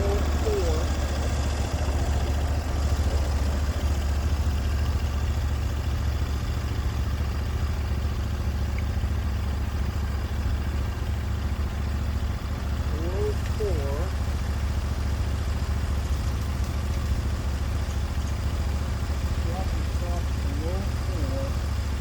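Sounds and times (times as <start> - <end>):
sawmill engine running: 0.0 - 22.0.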